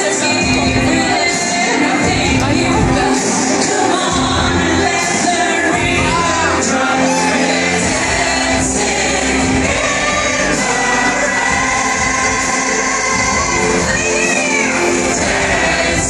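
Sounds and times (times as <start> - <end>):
backing voices singing: 0.0 - 16.0
loud pop backing track: 0.0 - 16.0
woman singing lead vocals: 0.0 - 16.0.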